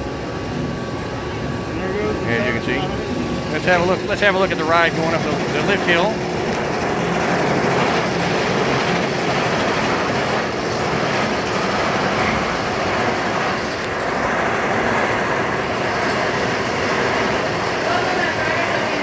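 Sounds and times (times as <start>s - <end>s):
roller coaster rattling on track: 0.0s - 19.0s.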